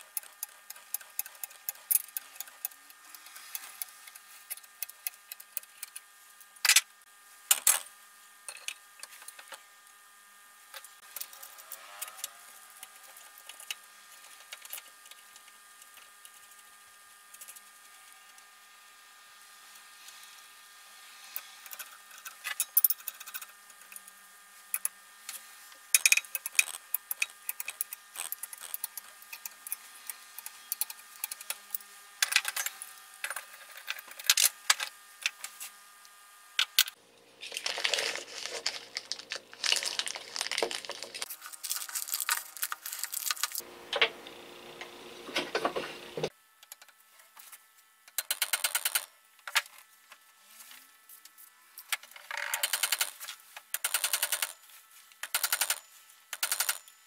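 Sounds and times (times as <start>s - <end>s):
background hum: 0.0s - 57.0s.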